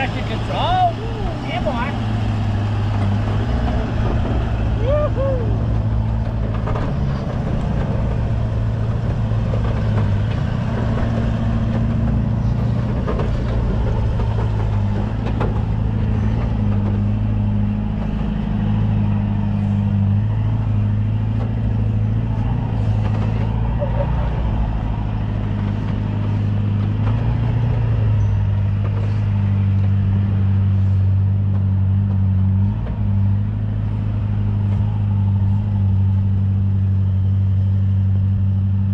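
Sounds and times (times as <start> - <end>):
four-wheel-drive engine under load: 0.0 - 38.9.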